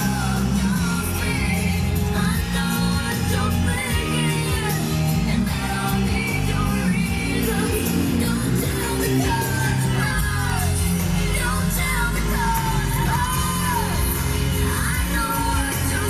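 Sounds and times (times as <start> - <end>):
pop music with singing: 0.0 - 16.0.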